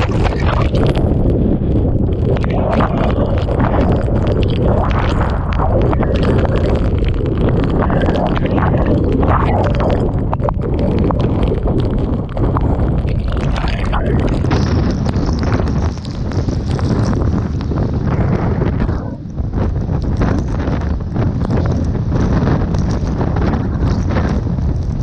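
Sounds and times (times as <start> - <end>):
driving rain spattering: 0.0 - 25.0
wind buffeting microphone: 0.0 - 25.0.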